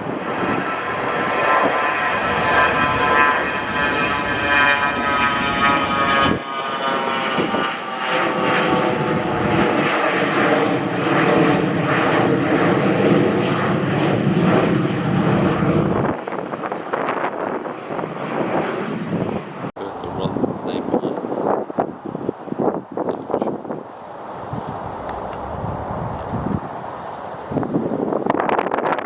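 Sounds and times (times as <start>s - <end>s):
airliner engines whining: 0.0s - 29.0s.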